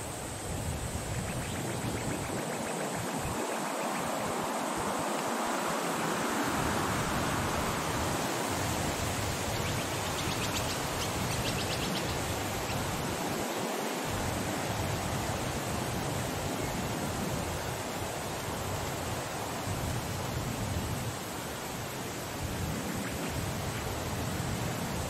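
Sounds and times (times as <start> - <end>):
wind rushing through palms: 0.0 - 25.0.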